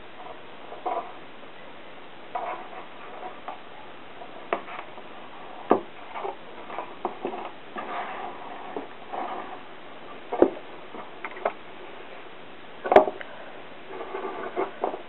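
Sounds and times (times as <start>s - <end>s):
cord rustling and sliding: 0.2s - 1.2s, 2.3s - 3.6s, 4.2s - 13.1s, 13.8s - 15.0s.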